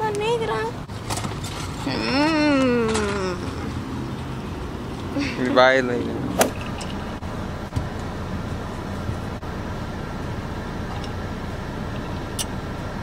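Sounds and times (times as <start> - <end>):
car road noise inside cabin: 0.0 - 13.0.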